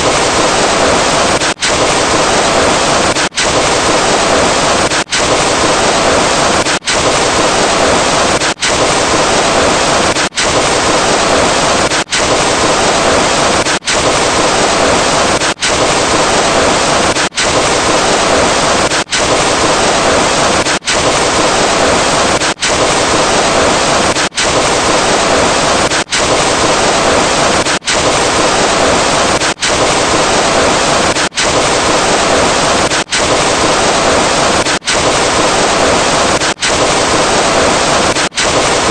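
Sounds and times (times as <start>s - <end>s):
loud steady rushing noise: 0.0s - 38.9s.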